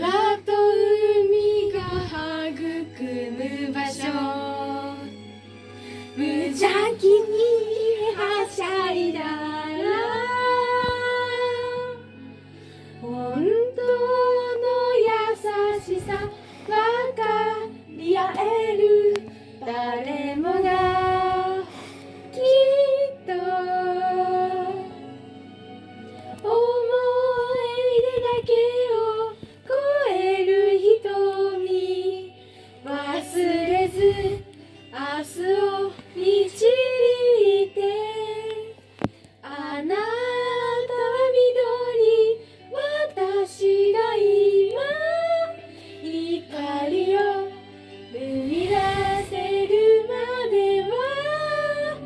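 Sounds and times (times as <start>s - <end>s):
children singing pop song: 0.0s - 5.2s, 6.0s - 12.1s, 13.0s - 25.3s, 26.2s - 52.0s
backing music: 0.0s - 52.0s.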